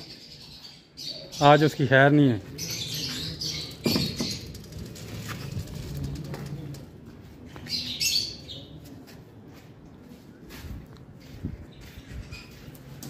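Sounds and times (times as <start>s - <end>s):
lovebirds chirping: 0.0s - 9.1s, 11.2s - 13.0s.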